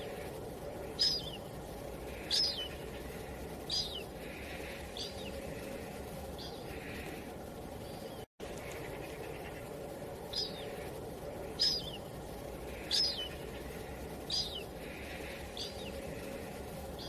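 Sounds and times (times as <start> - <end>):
small bird calling: 0.0 - 17.0
wind hiss: 0.0 - 17.0.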